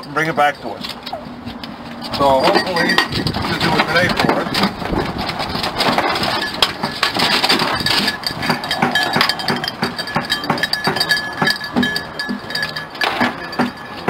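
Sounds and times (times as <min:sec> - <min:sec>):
small collar bells jingling: 0:01.9 - 0:14.0.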